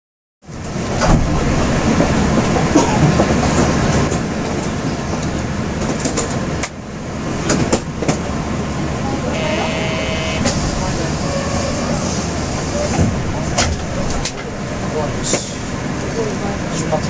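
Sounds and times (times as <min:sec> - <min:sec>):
train running noise: 0:00.4 - 0:17.0.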